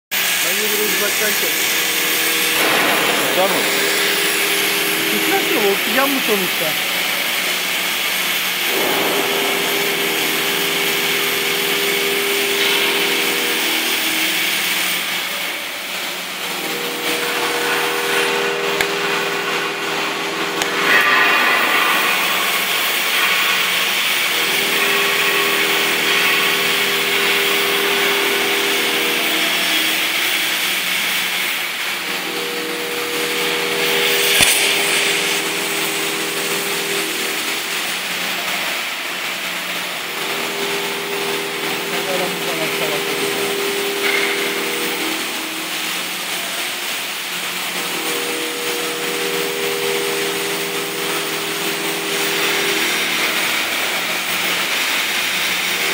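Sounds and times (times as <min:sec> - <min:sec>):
cutting torch hissing: 0:00.1 - 0:55.9
low mechanical hum: 0:00.2 - 0:55.9.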